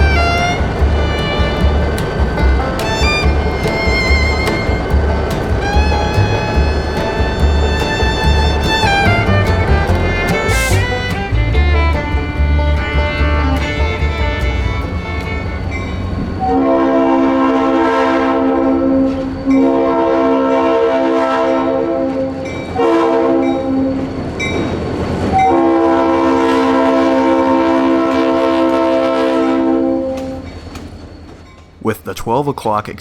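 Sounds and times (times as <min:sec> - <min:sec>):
locomotive air horn: 0:00.0 - 0:24.0, 0:25.3 - 0:30.6.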